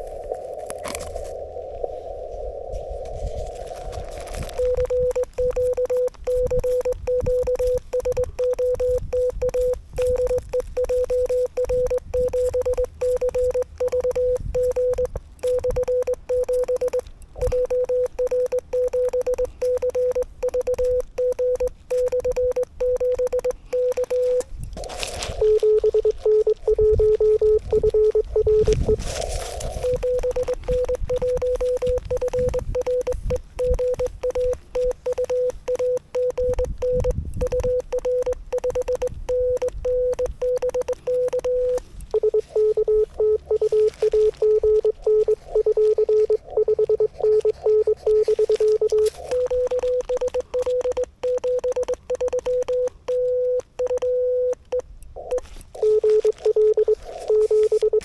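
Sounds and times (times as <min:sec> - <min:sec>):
steady lower tone: 0:00.0 - 0:52.9
morse code tone keyed by hand: 0:04.4 - 0:24.6, 0:25.4 - 0:58.0.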